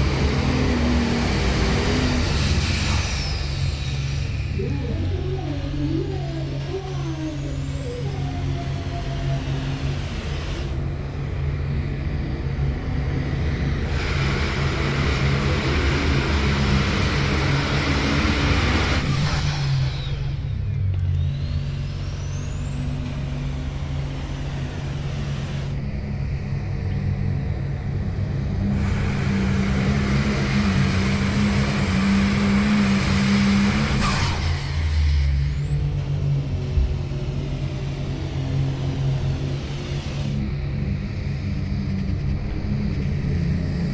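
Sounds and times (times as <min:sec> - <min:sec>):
diesel tractors at full power: 0:00.0 - 0:43.9
turbocharger whine: 0:00.0 - 0:43.9.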